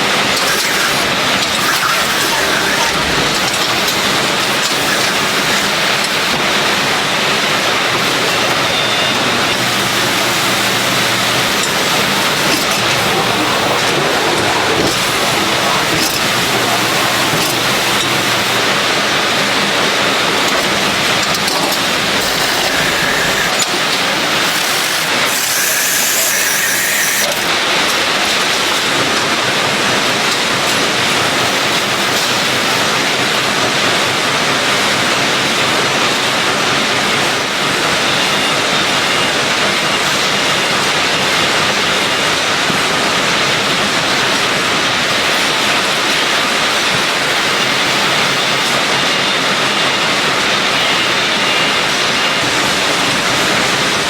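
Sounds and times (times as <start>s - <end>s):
factory machinery din: 0.0s - 54.0s.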